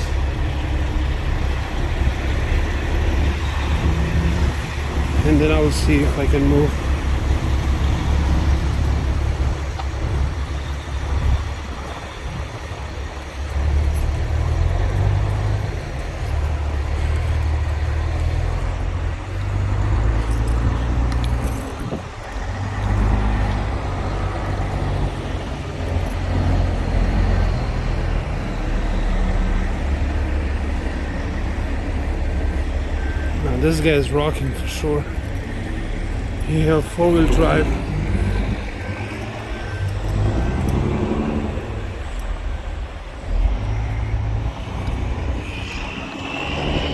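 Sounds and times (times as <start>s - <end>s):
truck engines rumbling: 0.0s - 46.9s.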